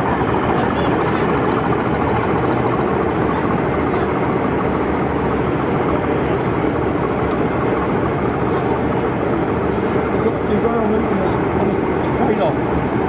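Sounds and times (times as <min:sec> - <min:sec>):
busy exhibition hall din: 0:00.0 - 0:13.0.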